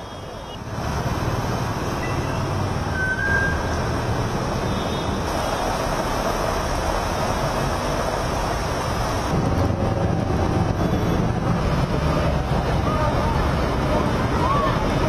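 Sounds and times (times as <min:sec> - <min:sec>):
traffic rumble on wet street: 0:00.0 - 0:15.0
heavy rain hissing: 0:00.6 - 0:15.0.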